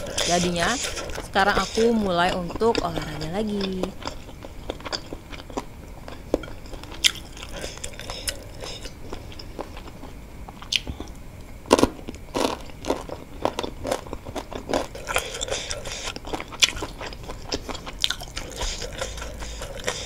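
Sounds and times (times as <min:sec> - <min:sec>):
person chewing and crunching food: 0:00.0 - 0:20.0.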